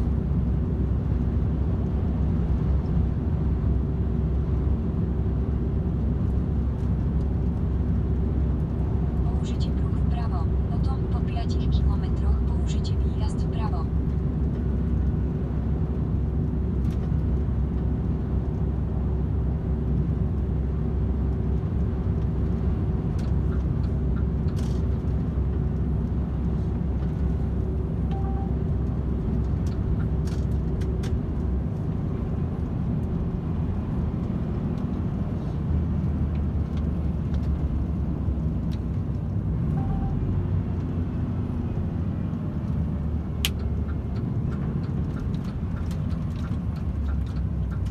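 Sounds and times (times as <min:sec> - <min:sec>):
truck engine and tyre rumble: 0:00.0 - 0:47.9.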